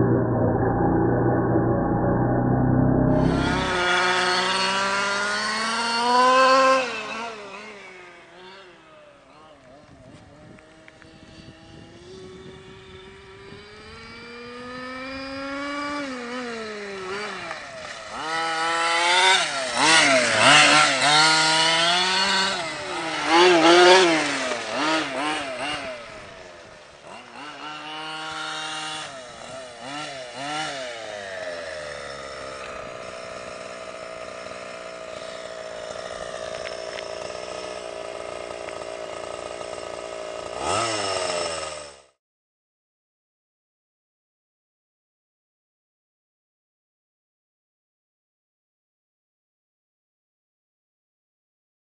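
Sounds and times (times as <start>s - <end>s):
model truck engine revving: 0.0s - 42.2s.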